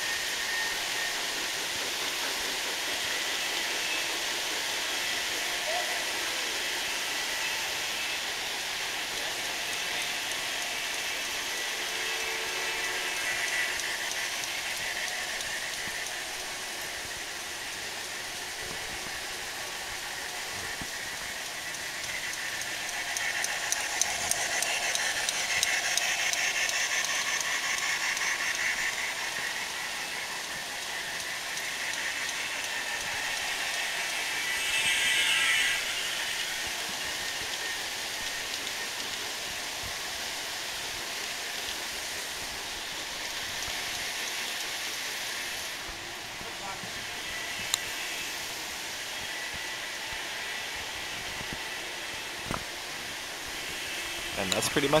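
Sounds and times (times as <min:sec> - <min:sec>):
model train rolling on track: 0:00.0 - 0:55.0
steady hiss: 0:00.0 - 0:55.0.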